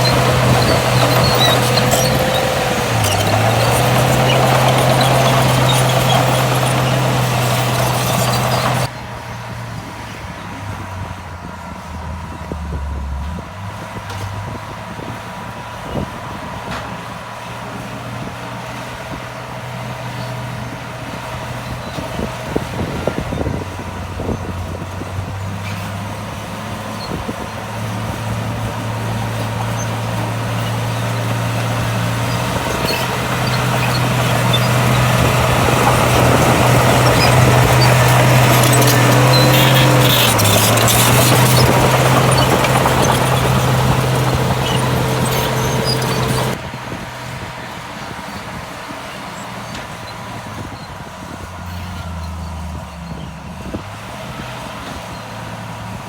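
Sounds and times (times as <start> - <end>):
heavy diesel engine running: 0.0 - 54.6.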